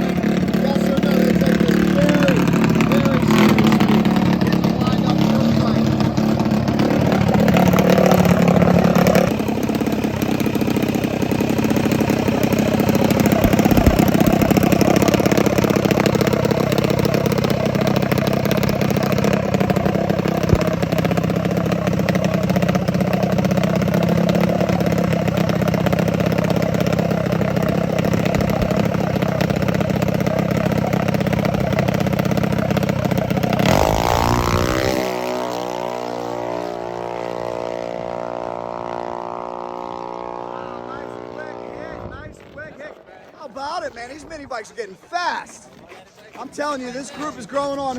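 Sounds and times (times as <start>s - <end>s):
small motorbike engines running: 0.0s - 47.9s.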